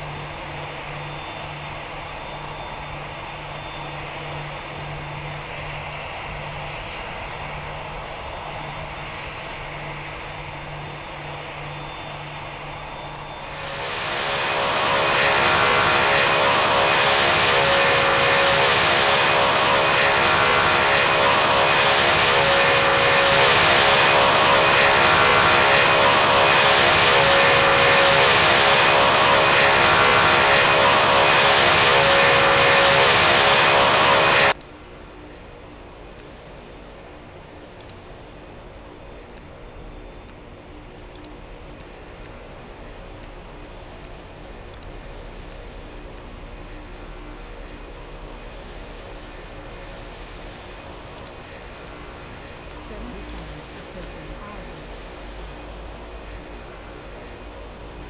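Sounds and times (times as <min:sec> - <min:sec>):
jet engines spooling up: 0:00.0 - 0:58.0.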